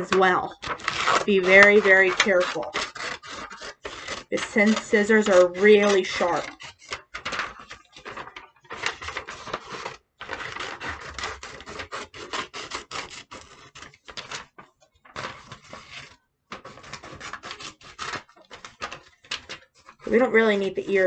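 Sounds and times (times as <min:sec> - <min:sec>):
paper rustling: 0:00.0 - 0:21.0
scissors cutting paper: 0:00.0 - 0:21.0.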